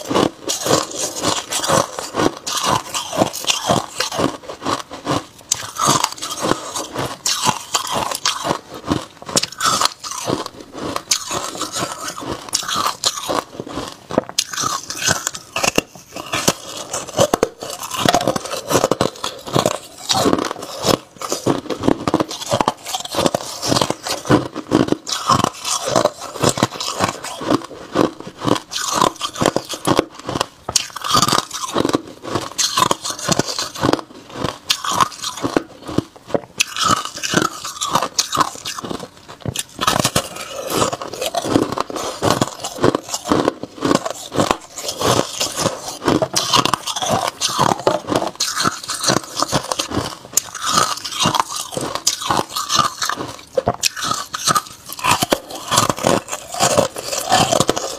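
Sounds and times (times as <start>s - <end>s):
person crunching ice: 0.0s - 57.9s.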